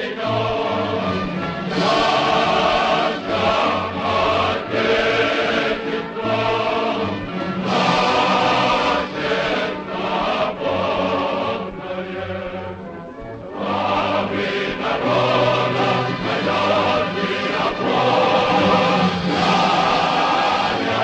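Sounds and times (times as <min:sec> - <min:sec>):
choir singing: 0:00.0 - 0:12.8, 0:13.4 - 0:21.0.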